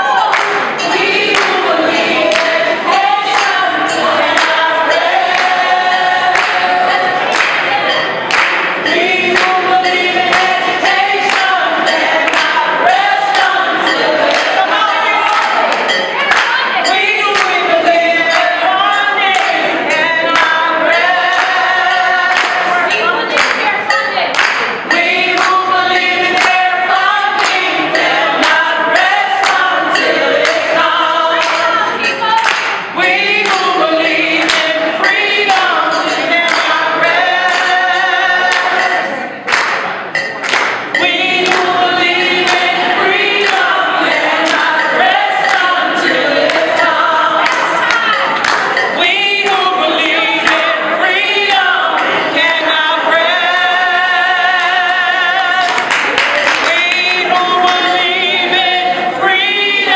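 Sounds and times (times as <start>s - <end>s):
group singing without instruments: 0.0s - 59.9s
hand claps: 0.2s - 58.1s.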